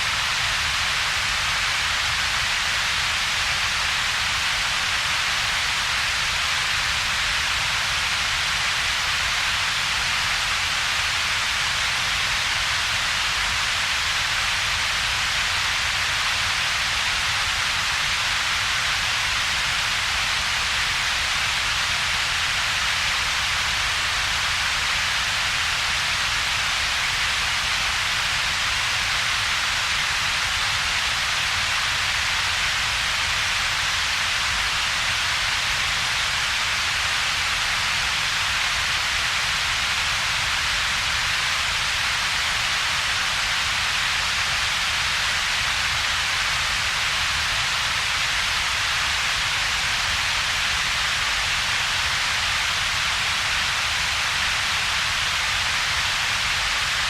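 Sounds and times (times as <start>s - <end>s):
synthetic steady hiss: 0.0s - 57.0s.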